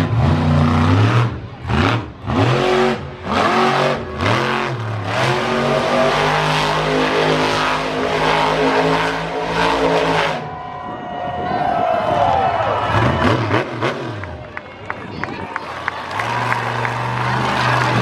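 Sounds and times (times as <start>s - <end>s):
monster truck engine revving: 0.0s - 10.7s, 12.5s - 14.7s, 15.7s - 18.0s.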